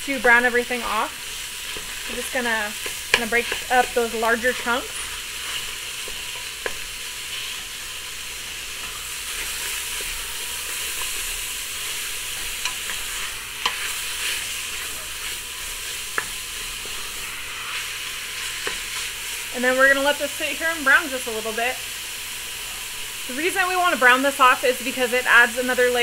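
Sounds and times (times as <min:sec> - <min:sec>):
meat sizzling in a pot: 0:00.0 - 0:26.0.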